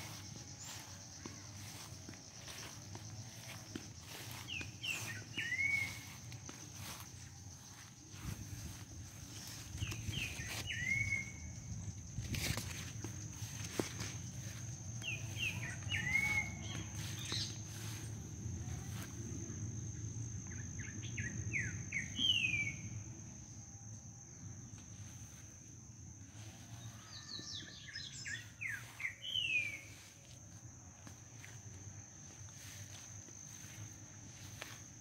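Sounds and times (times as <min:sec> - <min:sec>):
high insect whine: 0:00.0 - 0:35.0
songbird singing: 0:00.0 - 0:35.0.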